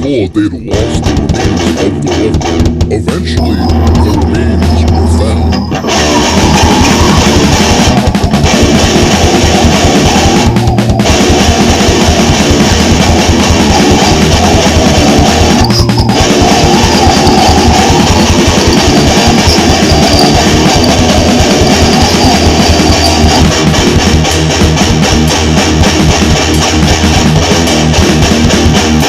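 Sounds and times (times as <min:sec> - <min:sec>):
heavy metal music: 0:00.0 - 0:29.0.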